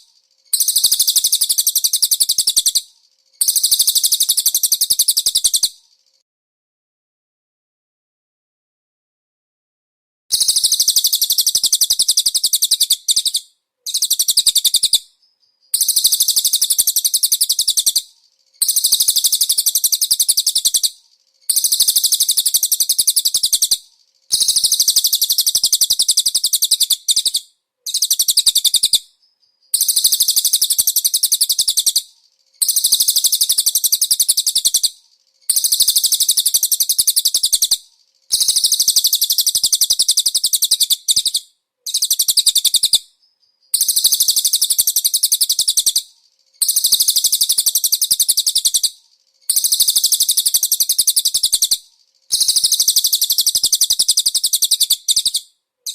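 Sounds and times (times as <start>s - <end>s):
songbird rattling trills: 0.0s - 6.2s, 10.3s - 55.4s.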